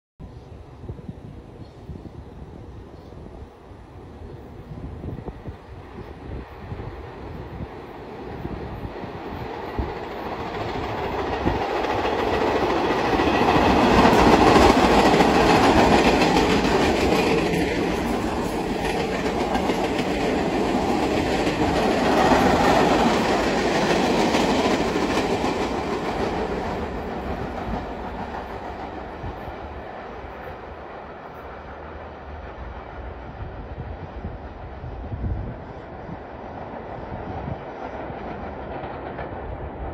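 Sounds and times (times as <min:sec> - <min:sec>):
subway train rumbling past: 0:00.2 - 0:39.9.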